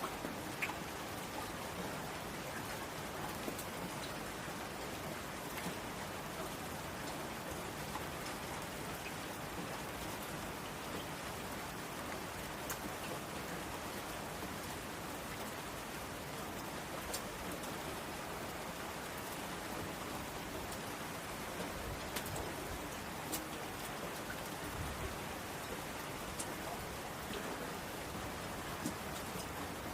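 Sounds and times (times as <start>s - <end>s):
rain on a window: 0.0s - 29.9s.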